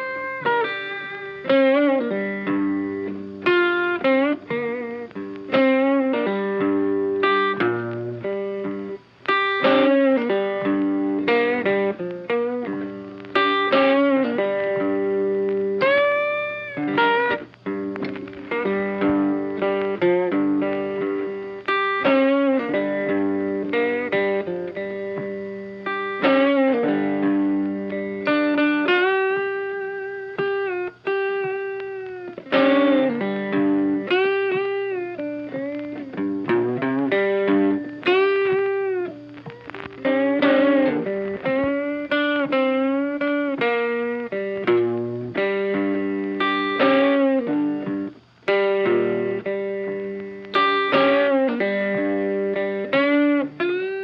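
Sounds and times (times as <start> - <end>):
funky electric guitar music: 0.0 - 54.0.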